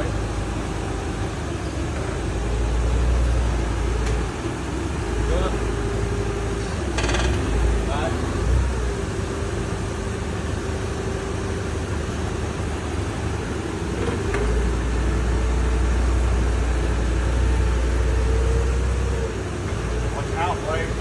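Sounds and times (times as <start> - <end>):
deep heavy rumble: 0.0 - 21.0
machine engine whining: 0.0 - 21.0.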